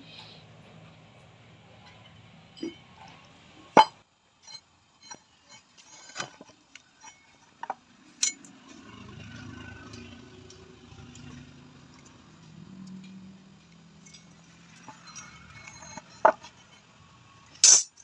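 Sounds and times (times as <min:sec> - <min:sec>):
steel plate clinking: 0:01.9 - 0:12.2, 0:13.0 - 0:18.0.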